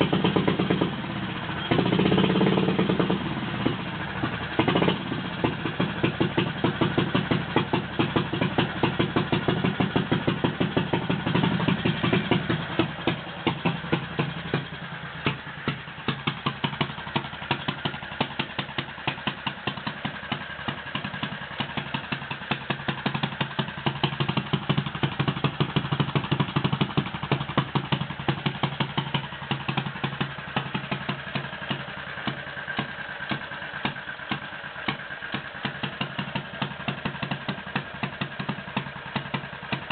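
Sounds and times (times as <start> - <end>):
engine running at low speed: 0.0 - 39.9.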